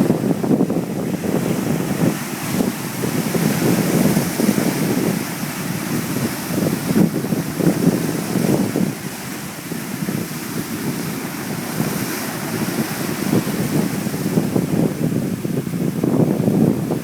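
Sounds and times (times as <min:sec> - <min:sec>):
surf washing on shore: 0:00.0 - 0:17.0
wind buffeting microphone: 0:00.0 - 0:17.0.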